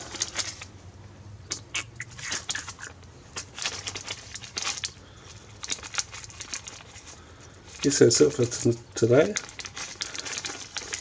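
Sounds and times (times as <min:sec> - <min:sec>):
small objects clicking and crinkling: 0:01.5 - 0:11.0.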